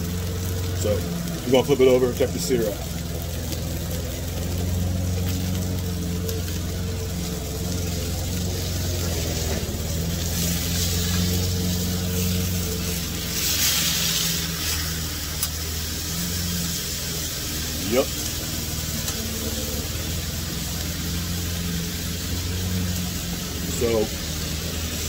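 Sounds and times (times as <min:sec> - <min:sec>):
meat sizzling on a griddle: 0:00.0 - 0:25.0
small engine droning: 0:00.0 - 0:25.0.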